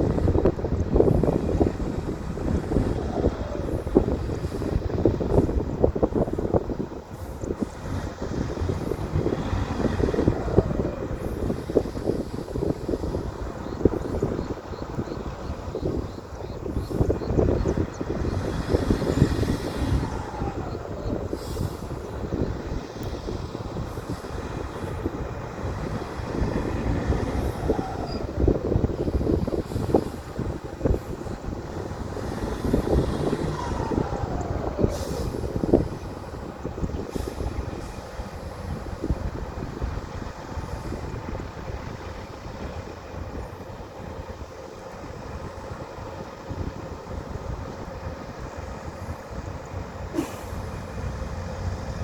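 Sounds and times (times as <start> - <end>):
bulldozer diesel engine under load: 0.0 - 52.0.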